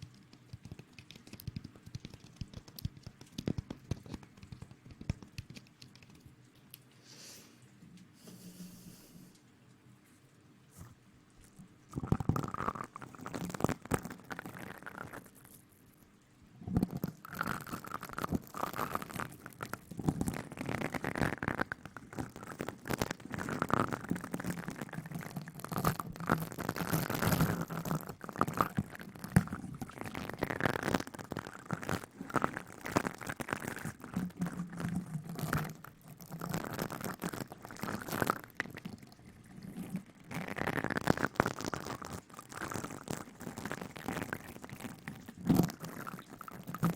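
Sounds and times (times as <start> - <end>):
rustling and rubbing crackles: 0.0 - 9.5, 16.7 - 46.9.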